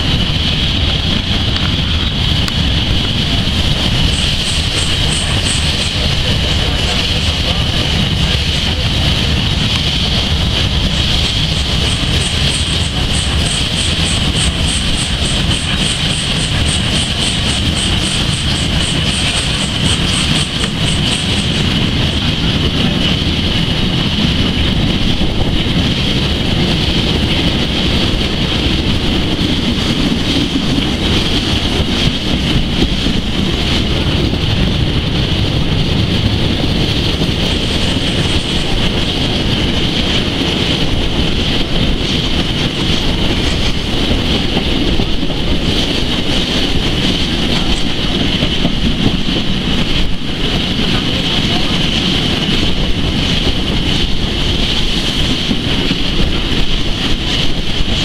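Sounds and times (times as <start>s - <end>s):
steam train running on track: 0.0s - 58.0s
wind rushing over microphone: 0.0s - 58.0s.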